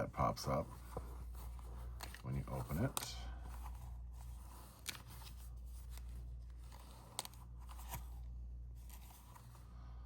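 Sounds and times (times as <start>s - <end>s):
low electrical hum: 0.0s - 10.0s
paper clicks and rustles: 0.8s - 9.6s.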